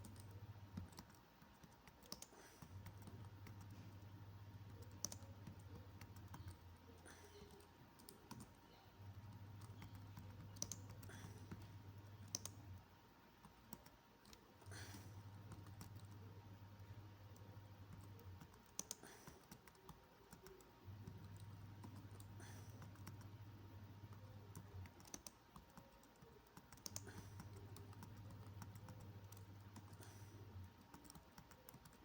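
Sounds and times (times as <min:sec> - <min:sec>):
keyboard typing: 0:00.0 - 0:12.8, 0:13.4 - 0:32.0.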